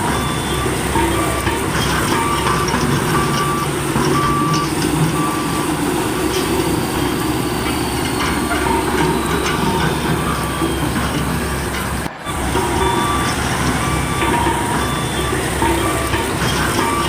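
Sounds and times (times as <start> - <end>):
engine rumble: 0.0 - 17.0
reversing alarm beeping: 0.0 - 17.0.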